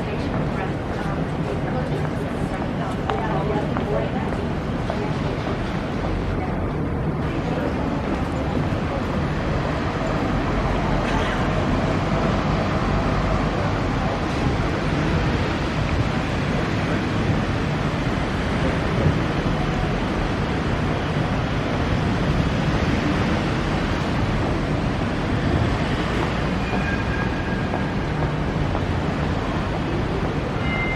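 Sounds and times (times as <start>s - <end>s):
outdoor background roar: 0.0s - 30.9s.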